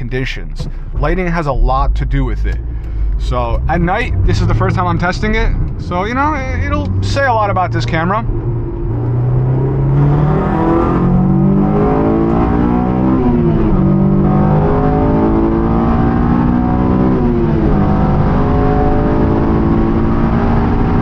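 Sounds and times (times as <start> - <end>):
car engine accelerating hard: 0.6 - 21.0.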